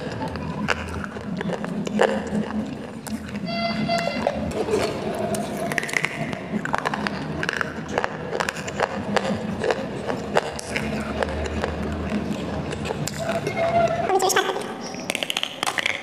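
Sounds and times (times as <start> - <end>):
chewing crunches: 0.0 - 13.6, 14.4 - 16.0.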